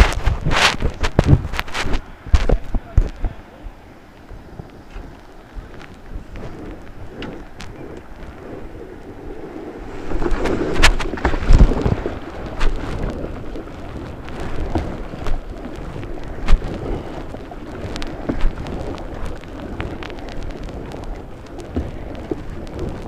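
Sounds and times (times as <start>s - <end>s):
water splashing from paddle strokes: 0.0s - 23.0s
wind rumble on microphone: 0.0s - 23.0s.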